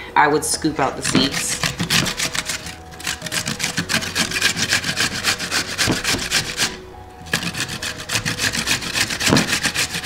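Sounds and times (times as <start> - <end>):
cucumber grated on metal grater: 1.0 - 10.0.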